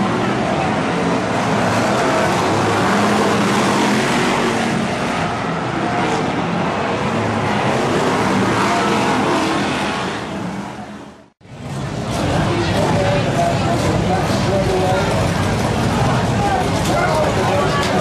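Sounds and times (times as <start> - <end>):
race car engines at full throttle: 0.0 - 18.0.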